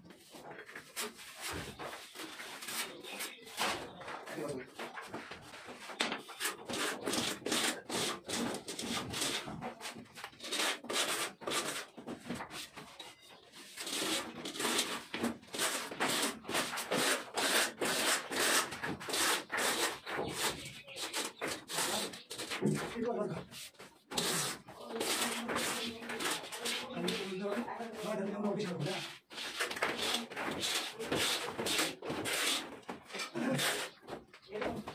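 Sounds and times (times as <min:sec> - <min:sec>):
plastering tool scraping plaster: 0:00.1 - 0:34.9.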